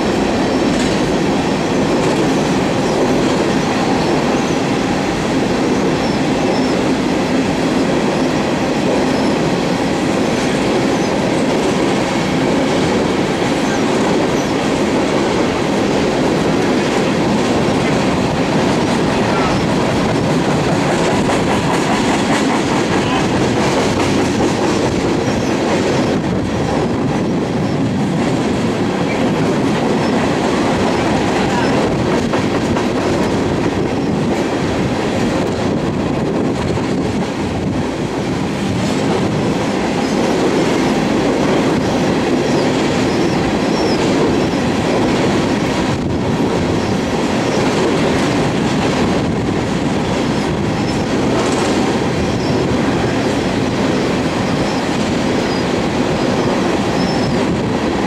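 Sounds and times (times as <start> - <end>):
freight train wheels rolling on rails: 0.0 - 58.0.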